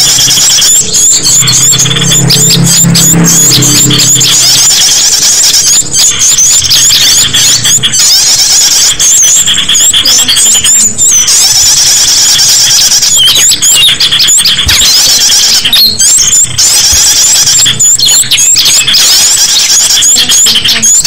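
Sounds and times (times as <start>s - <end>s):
chorus of small songbirds chirping: 0.0s - 21.0s.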